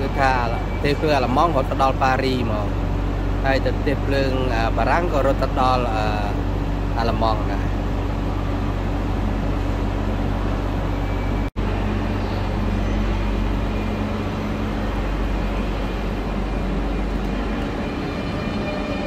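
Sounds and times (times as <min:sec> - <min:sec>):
train humming at platform: 0:00.0 - 0:19.0.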